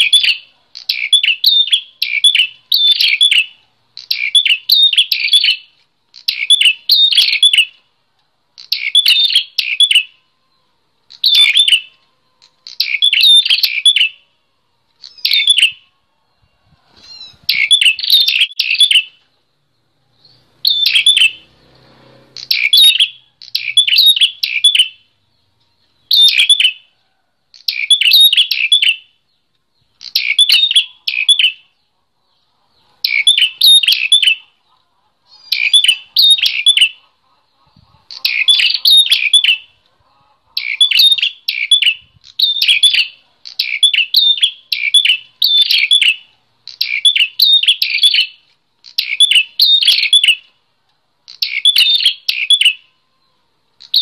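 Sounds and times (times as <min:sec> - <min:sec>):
bird chirping rapidly: 0:00.0 - 0:07.8, 0:08.6 - 0:10.2, 0:11.1 - 0:12.0, 0:12.6 - 0:14.3, 0:15.0 - 0:15.9, 0:17.0 - 0:26.9, 0:27.6 - 0:50.6, 0:51.3 - 0:53.0.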